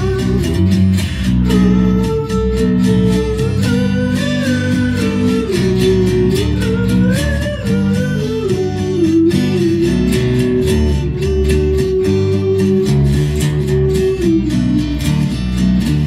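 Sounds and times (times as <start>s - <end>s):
gliding held melody line: 0.0s - 15.7s
strummed guitar: 0.0s - 16.0s.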